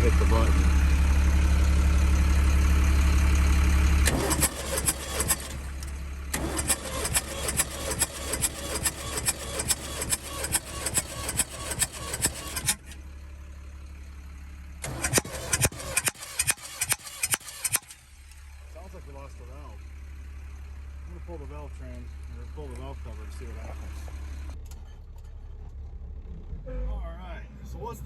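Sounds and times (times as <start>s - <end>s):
diesel engine cranking: 0.0s - 13.4s, 14.8s - 27.0s
starter hum: 0.0s - 14.2s, 14.8s - 26.6s.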